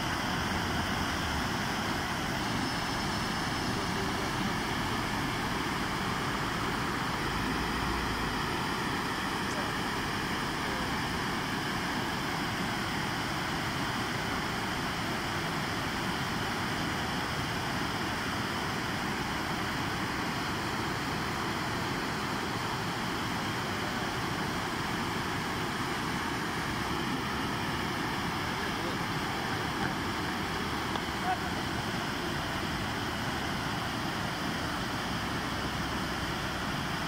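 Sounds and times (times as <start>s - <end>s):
fountain water splashing: 0.0s - 37.0s.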